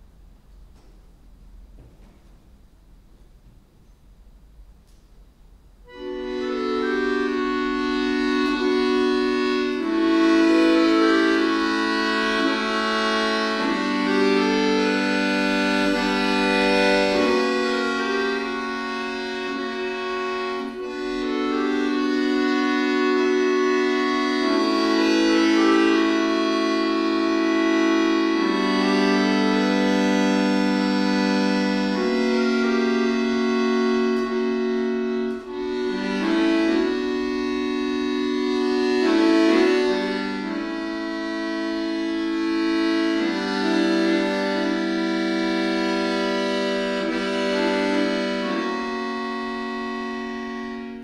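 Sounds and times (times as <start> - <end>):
button accordion chords: 5.8 - 51.0.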